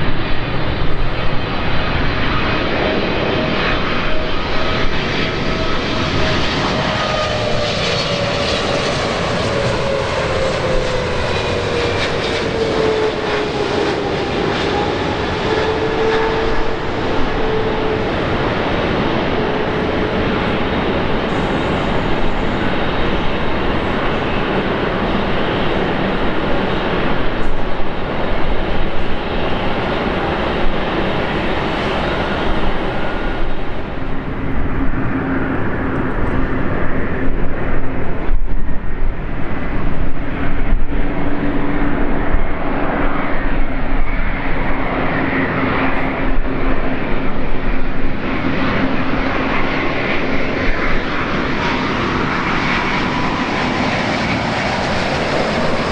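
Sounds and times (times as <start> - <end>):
jet engines rushing: 0.0 - 55.9.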